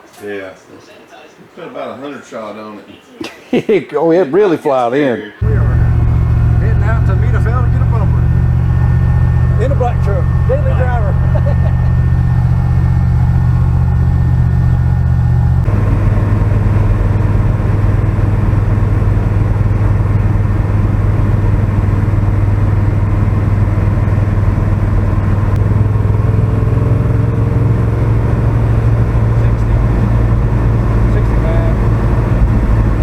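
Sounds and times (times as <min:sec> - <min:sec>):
road noise: 0:05.4 - 0:33.0
truck engine droning: 0:05.4 - 0:33.0.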